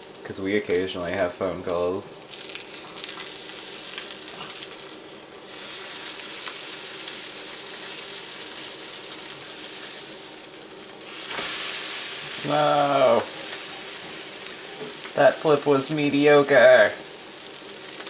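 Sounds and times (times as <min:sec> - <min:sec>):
omelette sizzling in a skillet: 0:00.0 - 0:18.0.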